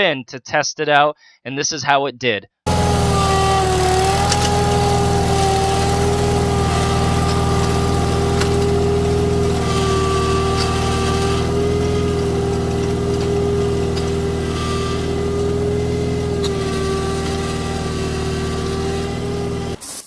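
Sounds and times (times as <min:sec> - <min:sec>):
tractor engine running: 0:02.7 - 0:19.9.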